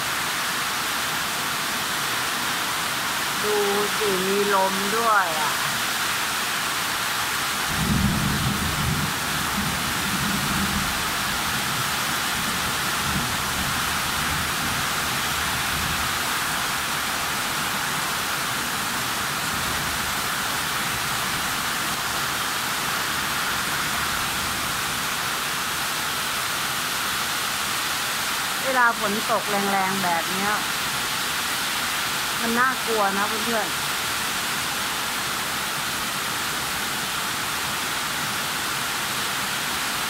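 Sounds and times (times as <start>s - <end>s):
heavy rain downpour: 0.0s - 40.0s.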